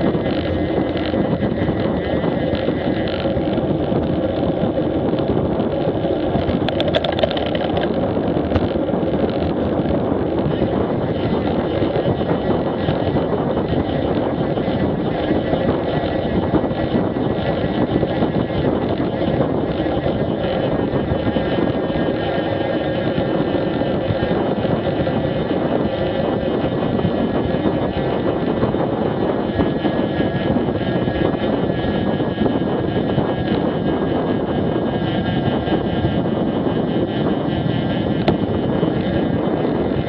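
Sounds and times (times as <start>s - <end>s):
motorcycle engine droning: 0.0s - 40.0s
wind rushing over camera: 0.0s - 40.0s.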